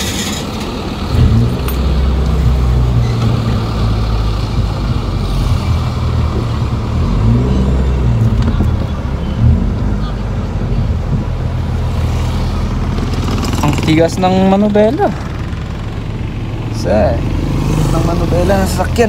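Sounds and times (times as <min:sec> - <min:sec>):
car engine hum from cabin: 0:00.0 - 0:19.0.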